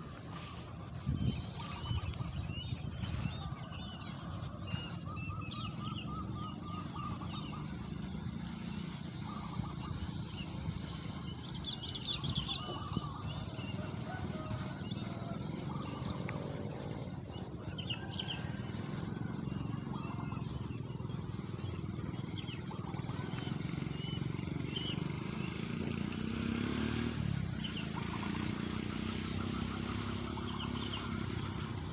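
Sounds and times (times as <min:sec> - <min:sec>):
birds chirping and twittering: 0:00.0 - 0:31.9.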